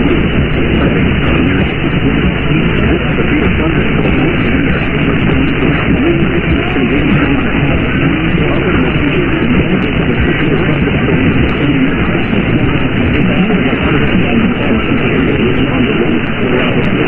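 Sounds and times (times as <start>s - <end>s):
faint indistinct radio audio: 0.0s - 17.0s
radio static hiss: 0.0s - 17.0s.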